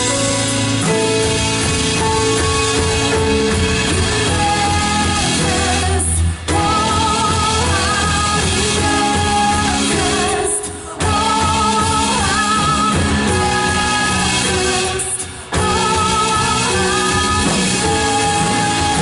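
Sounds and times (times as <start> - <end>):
live band with singer: 0.0 - 19.0.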